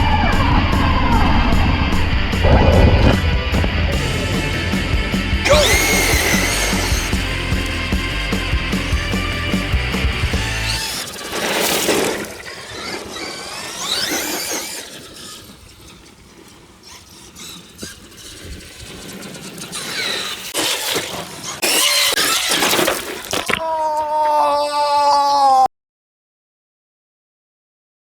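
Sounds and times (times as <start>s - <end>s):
electric motor whining: 0.0s - 22.9s
rough harsh noise bursts: 0.0s - 23.2s.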